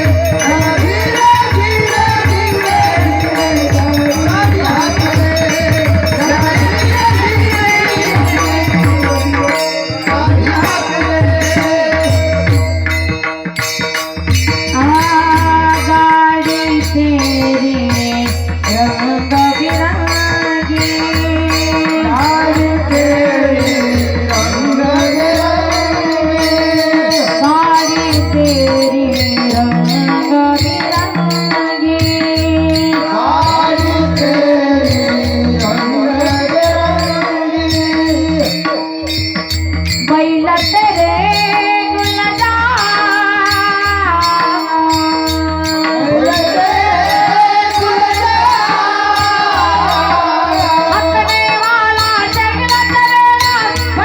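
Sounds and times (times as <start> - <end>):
woman singing: 0.0 - 12.7, 14.8 - 38.8, 40.0 - 54.0
hand drum beats: 0.0 - 54.0
small cymbals clashing: 0.0 - 54.0.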